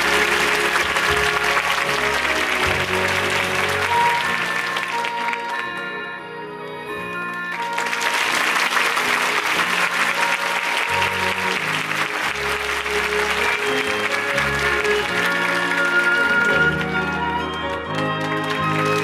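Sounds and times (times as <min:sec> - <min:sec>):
audience applauding: 0:00.0 - 0:05.9, 0:07.4 - 0:19.0
stage musical music: 0:00.0 - 0:19.0.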